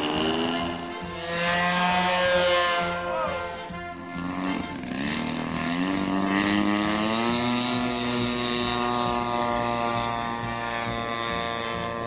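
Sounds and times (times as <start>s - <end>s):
model airplane engine revving: 0.0s - 12.0s.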